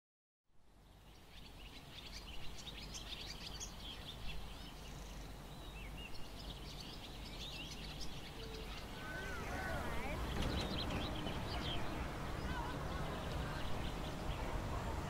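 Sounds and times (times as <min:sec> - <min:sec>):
low outdoor background rumble: 0:00.6 - 0:15.0
small birds chirping: 0:00.8 - 0:15.0.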